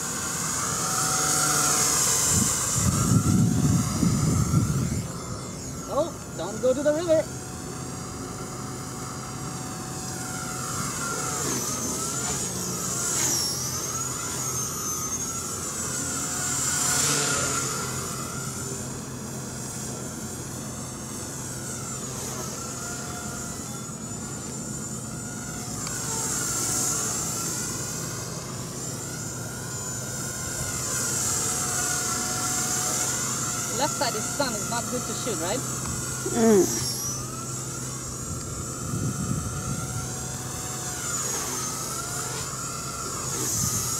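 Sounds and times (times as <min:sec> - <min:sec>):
model helicopter whine: 0:00.0 - 0:43.9.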